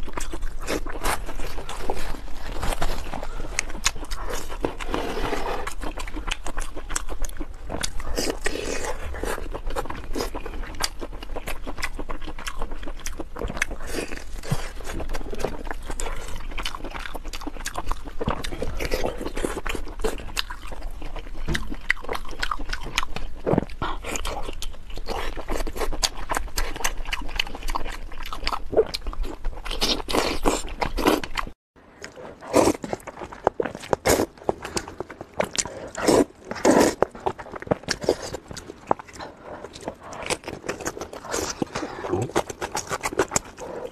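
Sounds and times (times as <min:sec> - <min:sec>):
wet chewing and mouth smacks: 0:00.0 - 0:43.9.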